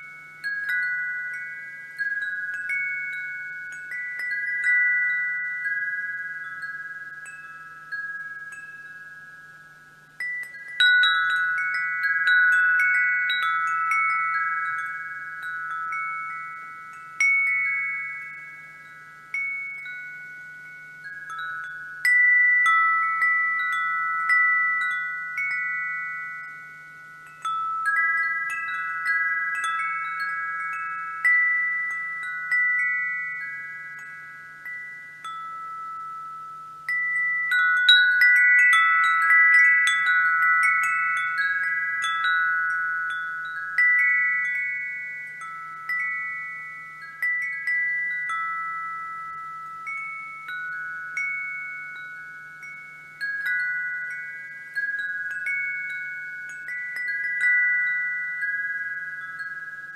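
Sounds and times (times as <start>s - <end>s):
wind chimes ringing: 0.0s - 59.9s.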